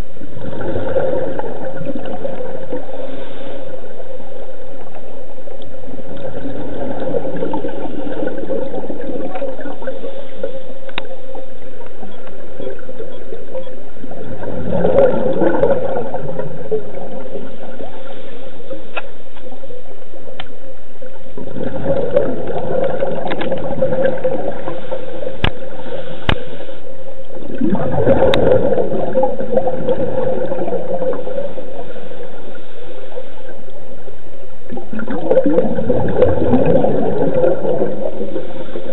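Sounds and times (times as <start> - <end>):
regulator exhaust bubbling underwater: 0.0 - 38.9
steady hum: 0.0 - 38.9.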